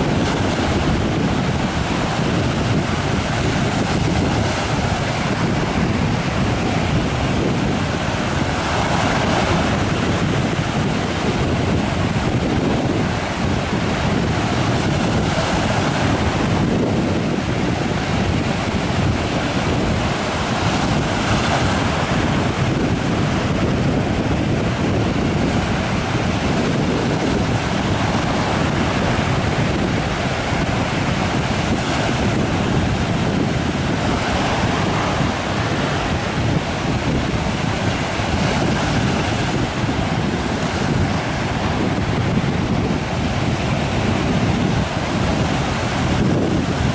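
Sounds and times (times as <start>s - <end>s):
sea surf breaking on sand: 0.0s - 46.9s
wind buffeting microphone: 0.0s - 46.9s.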